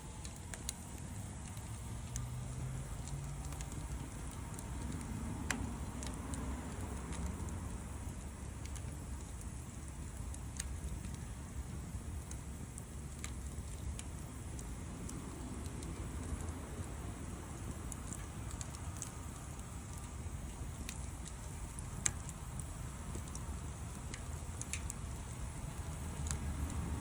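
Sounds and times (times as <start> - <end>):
fire crackles and pops: 0.0 - 27.0
fire low rumble: 0.0 - 27.0.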